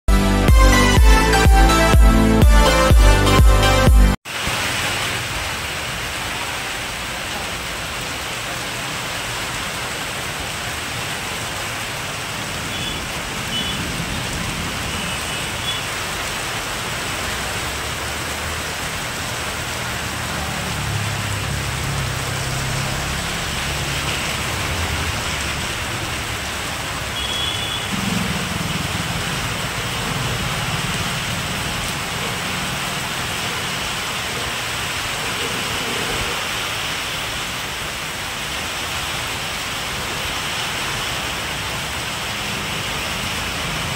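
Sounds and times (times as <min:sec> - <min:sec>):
rain on wet pavement: 0:04.2 - 0:43.9.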